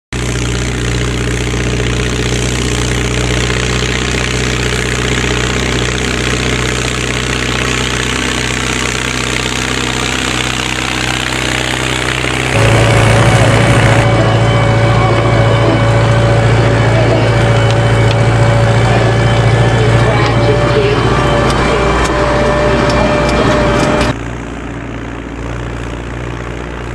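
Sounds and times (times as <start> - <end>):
tractor diesel engine running: 0.1 - 26.9
steady whine: 0.2 - 26.9.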